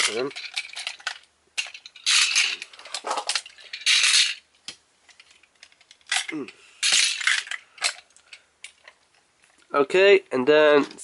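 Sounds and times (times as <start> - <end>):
plastic toy parts clicking and rattling: 0.0 - 9.6.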